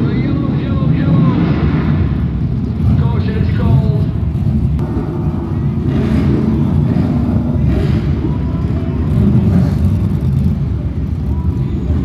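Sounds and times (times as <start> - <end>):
racing car engines rumbling: 0.0 - 12.0.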